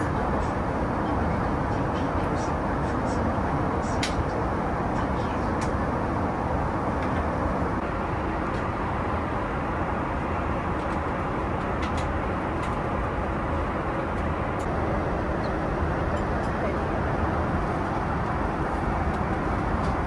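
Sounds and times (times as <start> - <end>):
airplane cabin rushing noise: 0.0 - 20.0.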